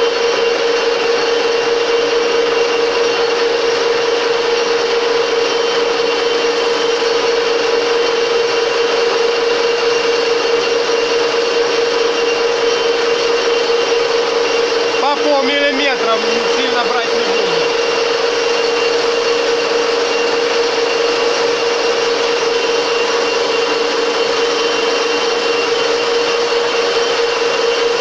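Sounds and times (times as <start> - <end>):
metal lathe turning: 0.1 - 28.0.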